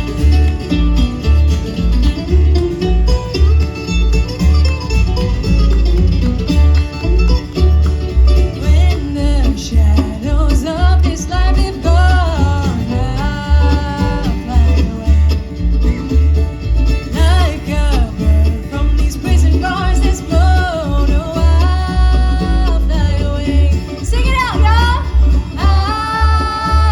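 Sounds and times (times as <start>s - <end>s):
banjo picking: 0.0s - 26.9s
bluegrass band playing: 0.0s - 26.9s
steady bass beat: 0.0s - 26.9s.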